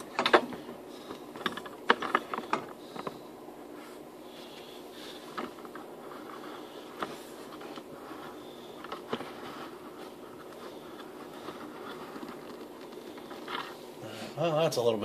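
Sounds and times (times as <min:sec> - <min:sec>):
equipment rustling and scraping: 0:00.0 - 0:14.0
steady low hum: 0:00.0 - 0:15.0.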